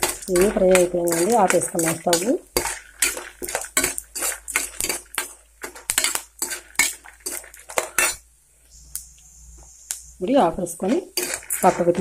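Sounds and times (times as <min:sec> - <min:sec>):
steel spoon scraping a pan: 0:00.0 - 0:08.2, 0:09.7 - 0:12.0.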